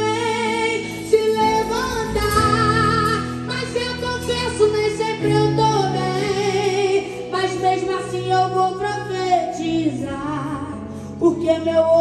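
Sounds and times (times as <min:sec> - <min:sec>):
woman singing gospel song: 0:00.0 - 0:12.0.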